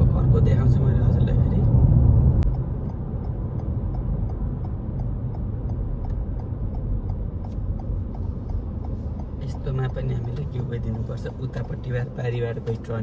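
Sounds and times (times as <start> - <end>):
car road and engine rumble: 0.0 - 13.0
turn signal ticking: 0.0 - 13.0.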